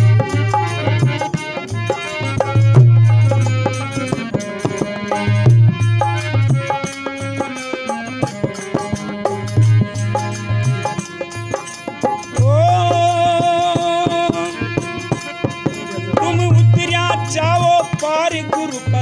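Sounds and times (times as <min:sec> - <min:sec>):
hand drum rhythm: 0:00.0 - 0:19.0
instrumental devotional music: 0:00.0 - 0:19.0.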